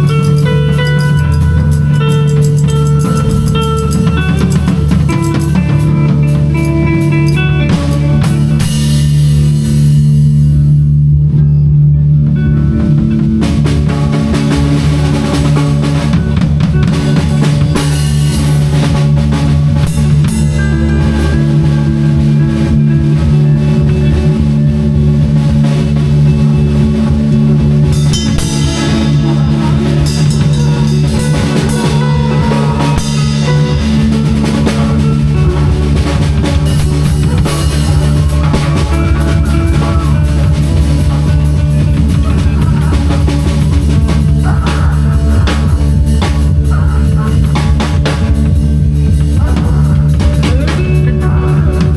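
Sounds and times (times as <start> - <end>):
bass guitar: 0.0 - 51.9
drum kit: 0.0 - 51.9
guitar: 0.0 - 51.9.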